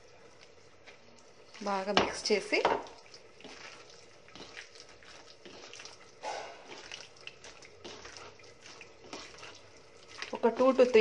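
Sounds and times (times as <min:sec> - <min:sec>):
wet squelching of chicken in marinade: 0:00.0 - 0:11.0.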